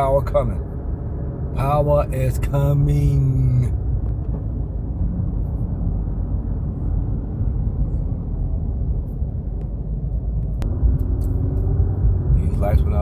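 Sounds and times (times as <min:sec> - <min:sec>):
car interior road and engine rumble: 0:00.0 - 0:13.0.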